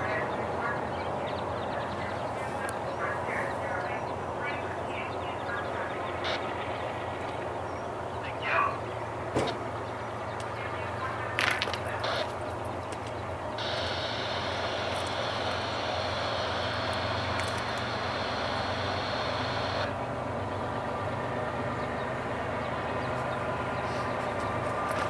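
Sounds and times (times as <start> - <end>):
low engine rumble: 0.0 - 25.0.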